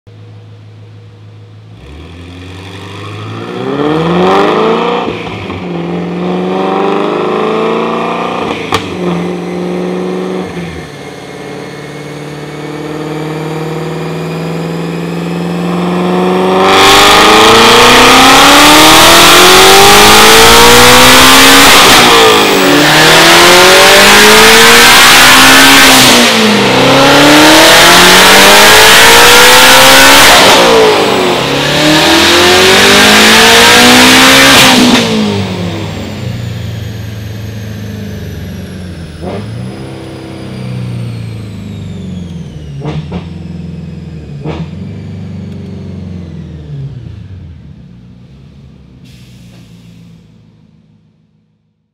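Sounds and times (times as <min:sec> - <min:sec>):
car engine revving: 0:01.6 - 0:49.4.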